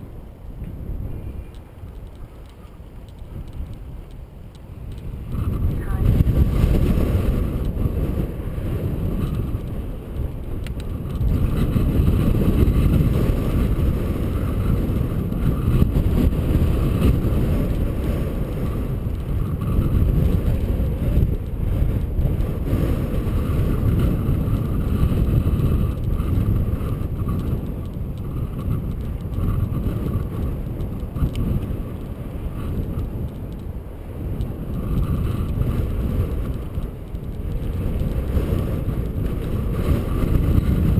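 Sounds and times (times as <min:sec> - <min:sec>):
bicycle riding noise: 0:00.0 - 0:40.9
wind rumbling on microphone: 0:00.0 - 0:40.9.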